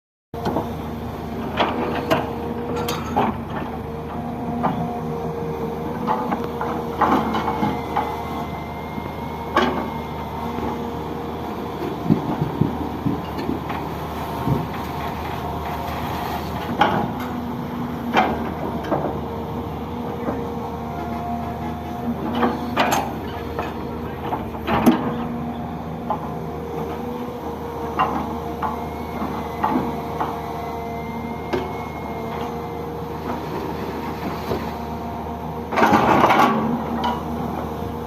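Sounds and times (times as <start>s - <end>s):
diesel excavator running: 0.4s - 38.0s.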